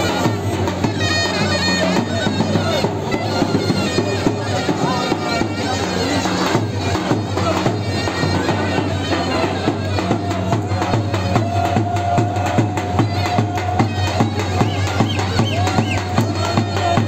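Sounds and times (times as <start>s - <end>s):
drum beats: 0.0s - 17.0s
shrill reed wind instrument: 0.0s - 17.0s.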